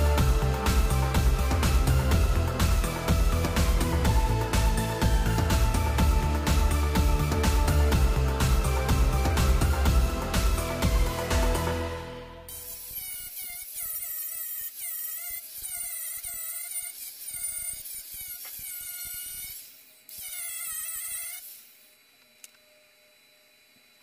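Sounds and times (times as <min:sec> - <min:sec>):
angle grinder grinding metal: 0:00.0 - 0:21.9.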